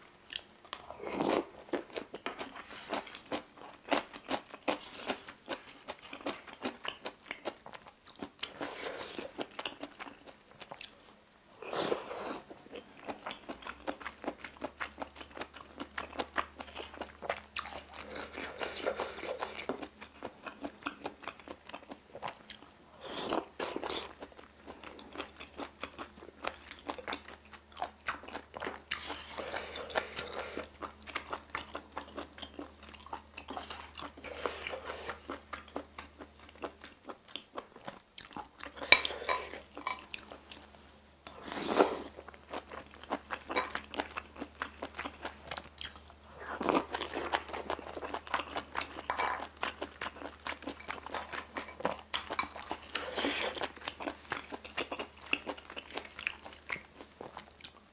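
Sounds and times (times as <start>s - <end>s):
person chewing food: 0.1s - 57.9s.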